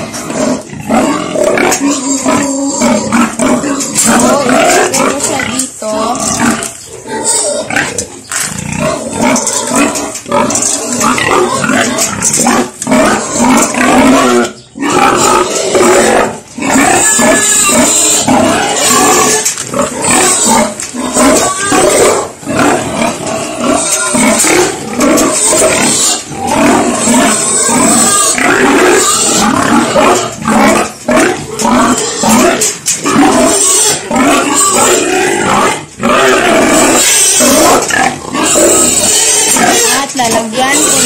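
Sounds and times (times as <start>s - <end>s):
pig squealing loudly: 0.0s - 41.0s.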